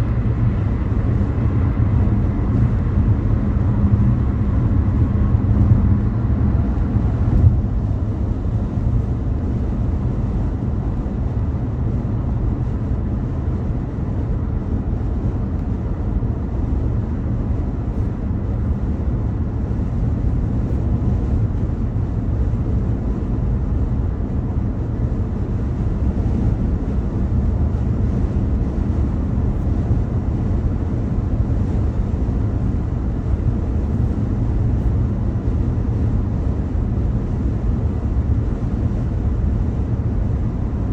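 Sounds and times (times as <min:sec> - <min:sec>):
car road rumble on freeway: 0:00.0 - 0:40.9.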